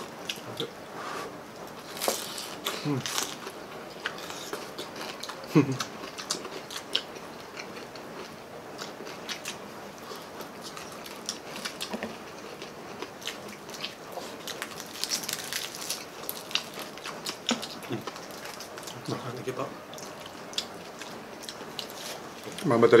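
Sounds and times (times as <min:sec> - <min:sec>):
crunching fried food: 0:01.8 - 0:22.8.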